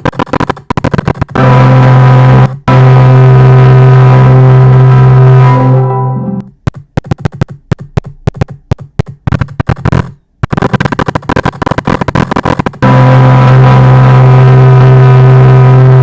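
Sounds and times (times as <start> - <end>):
stuttering glitch clicks: 0.0 - 16.0.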